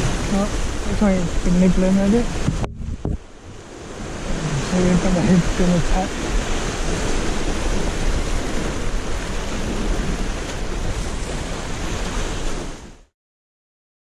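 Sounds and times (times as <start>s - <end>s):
surf washing over rocks: 0.0s - 13.1s
wind buffeting microphone: 0.0s - 13.1s.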